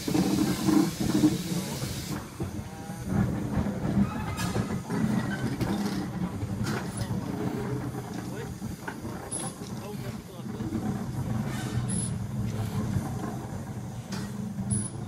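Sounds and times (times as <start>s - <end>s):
steam hissing: 0.0s - 15.0s
steam locomotive puffing: 0.0s - 15.0s.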